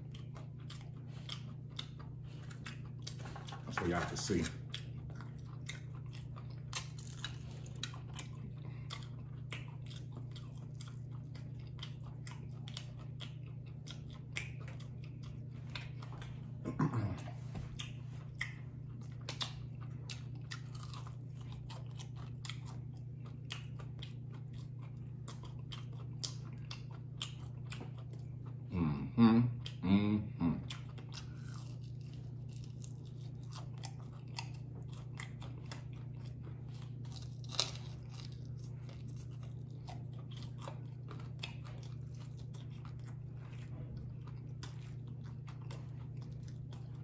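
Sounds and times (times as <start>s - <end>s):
crunchy chewing: 0.0s - 28.7s, 30.5s - 47.0s.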